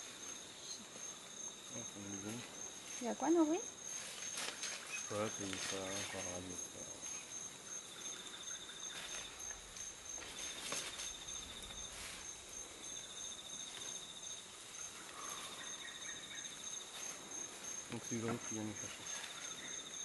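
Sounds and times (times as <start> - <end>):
high-pitched insect trill: 0.0 - 20.0
pulsed insect trill: 0.0 - 20.0.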